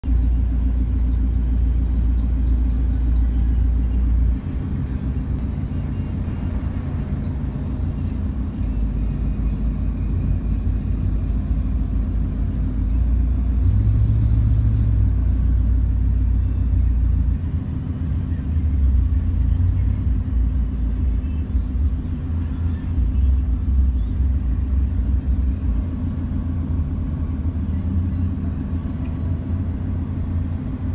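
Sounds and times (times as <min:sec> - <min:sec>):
diesel truck engine rumbling: 0:00.0 - 0:30.9
traffic: 0:00.0 - 0:30.9.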